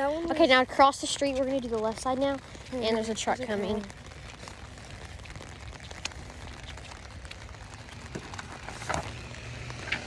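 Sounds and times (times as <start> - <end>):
rain on an umbrella: 0.0 - 10.0.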